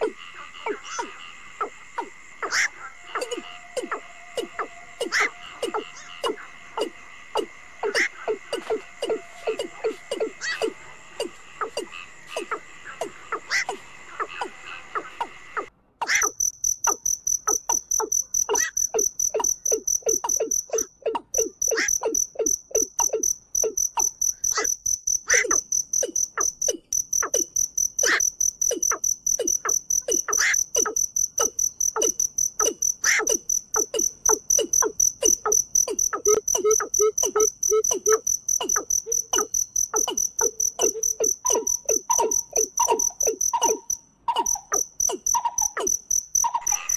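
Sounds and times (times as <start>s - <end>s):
cricket trilling: 0.0s - 46.9s
frogs croaking: 0.0s - 46.9s
low pulsing calls: 0.7s - 46.9s.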